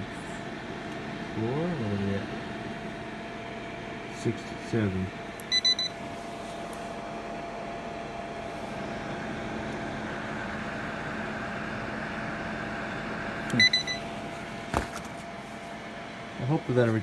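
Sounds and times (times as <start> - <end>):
hot-air blower running: 0.0 - 17.0.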